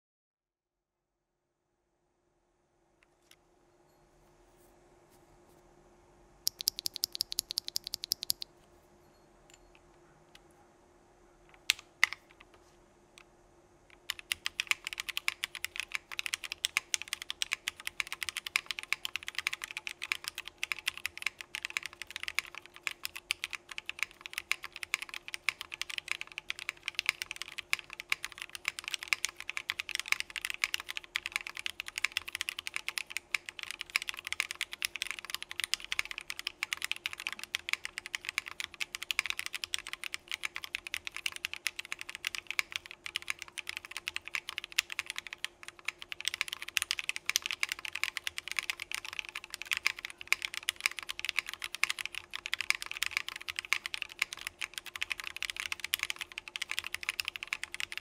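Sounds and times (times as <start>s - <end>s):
fast mechanical keyboard typing: 6.5s - 8.4s, 11.6s - 12.4s, 13.9s - 58.0s.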